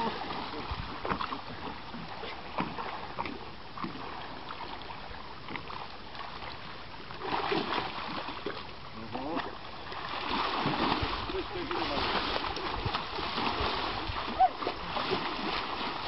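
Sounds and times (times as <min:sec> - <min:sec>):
fish thrashing in shallow water: 0:00.0 - 0:16.0
sloshing water: 0:00.0 - 0:16.0.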